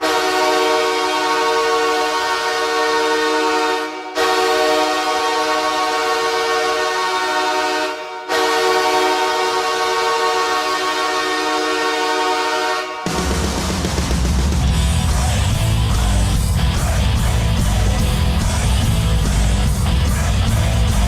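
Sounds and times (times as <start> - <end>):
deep arena goal horn: 0.0 - 13.6, 14.7 - 21.0.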